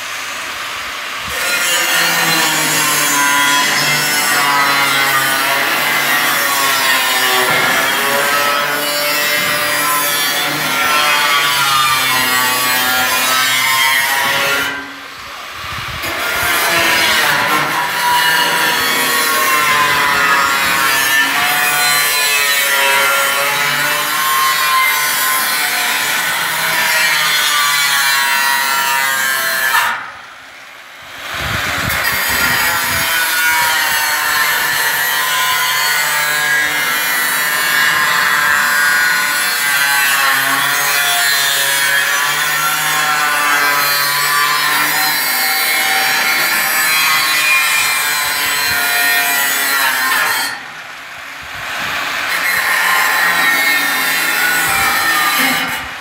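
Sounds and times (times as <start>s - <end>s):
angle grinder cutting steel sheet: 0.2s - 15.1s, 16.0s - 30.1s, 31.2s - 50.8s, 51.6s - 56.0s.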